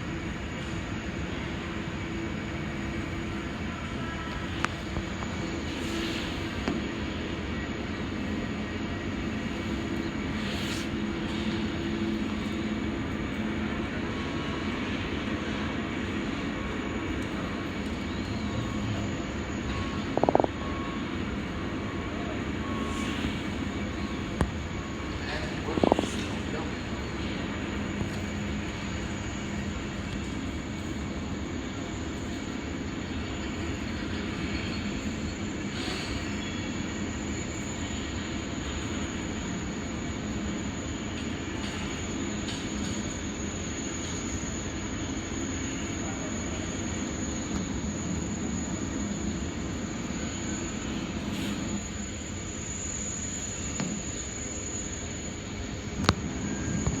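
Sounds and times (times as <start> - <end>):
faint high whine: 0.0 - 57.0
low rumble of large machinery: 0.0 - 57.0.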